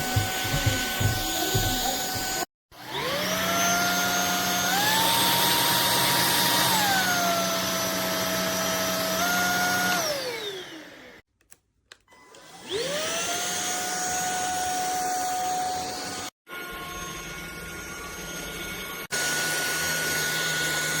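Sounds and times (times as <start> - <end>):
stick vacuum cleaner motor whining: 0.0 - 11.2, 12.1 - 21.0.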